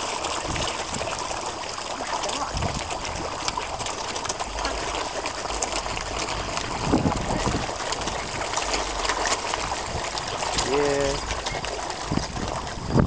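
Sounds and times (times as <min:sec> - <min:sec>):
fish splashing at surface: 0:00.0 - 0:13.0.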